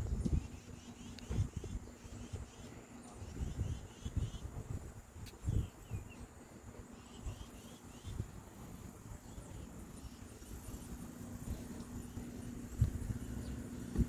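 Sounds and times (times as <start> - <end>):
small bird chirping: 0.0 - 14.0
steady low hum: 0.0 - 14.0.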